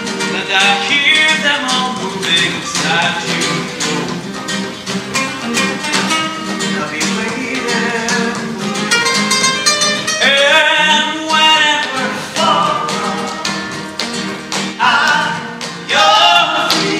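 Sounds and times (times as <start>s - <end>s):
man singing: 0.0s - 4.4s, 6.2s - 9.3s, 10.0s - 16.9s
guitar playing: 0.0s - 16.9s
rhythmic hand clapping: 0.0s - 16.9s.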